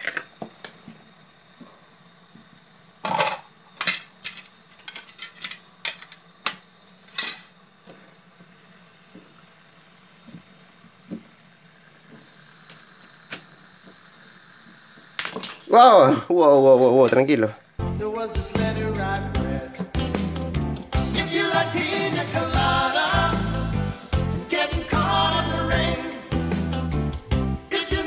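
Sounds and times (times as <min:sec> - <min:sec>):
high whir of spinning bearings: 0:00.0 - 0:26.7.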